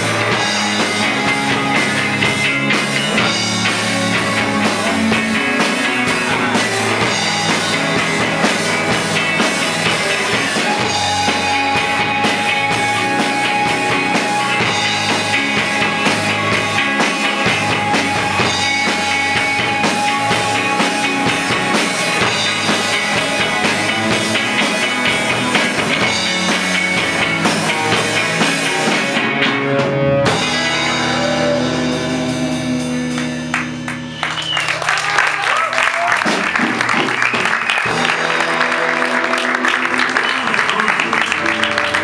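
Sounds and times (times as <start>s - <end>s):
bass guitar: 0.0s - 42.0s
drum kit: 0.0s - 42.0s
electric guitars: 0.0s - 42.0s.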